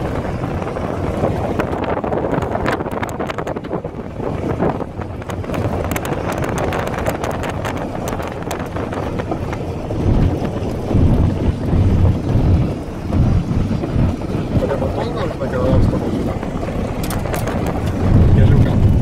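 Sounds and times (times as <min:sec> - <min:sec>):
car running noise: 0:00.0 - 0:19.0
wind buffeting microphone: 0:00.0 - 0:19.0.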